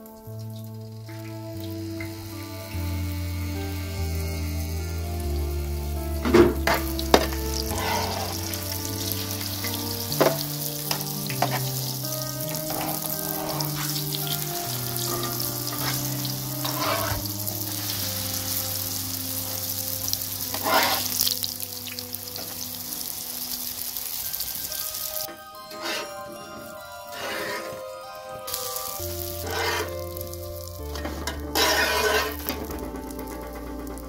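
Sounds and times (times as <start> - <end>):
pastries sizzling in hot oil: 0.0 - 26.0, 26.6 - 34.0.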